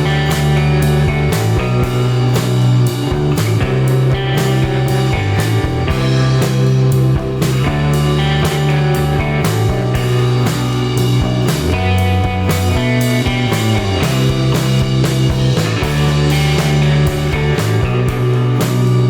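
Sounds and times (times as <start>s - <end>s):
rock music with guitar and drums: 0.0s - 19.0s.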